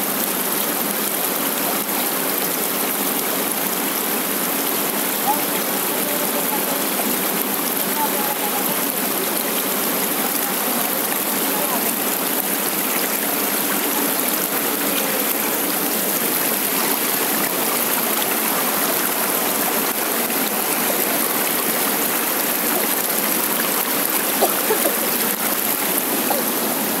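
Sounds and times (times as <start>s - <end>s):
stream splashing over stones: 0.0s - 27.0s.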